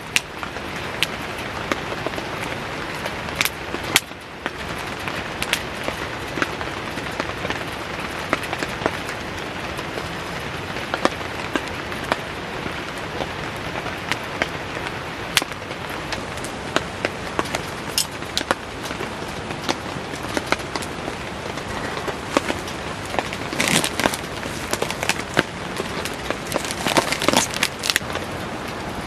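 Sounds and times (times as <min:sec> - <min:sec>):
campfire pops and crackles: 0:00.0 - 0:29.0
heavy rain falling: 0:00.0 - 0:29.0.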